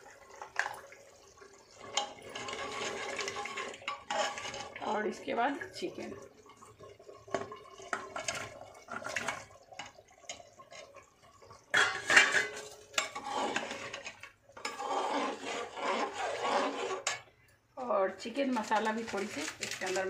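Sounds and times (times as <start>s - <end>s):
spoon stirring thick gravy: 0.1s - 17.6s.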